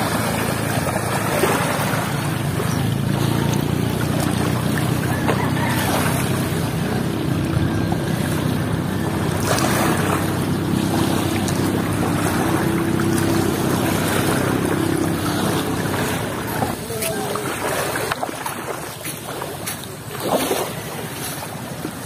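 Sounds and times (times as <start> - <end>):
boat engine humming: 0.0 - 22.0
water moving around raft: 0.0 - 22.0.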